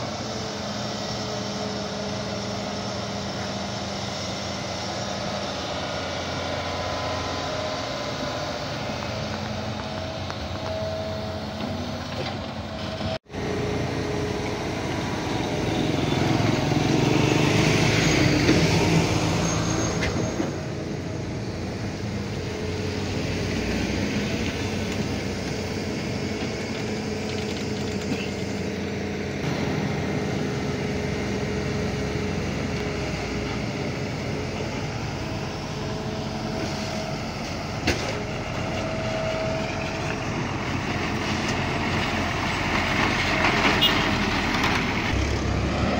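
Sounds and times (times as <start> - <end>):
heavy machinery diesel engines: 0.0 - 45.9.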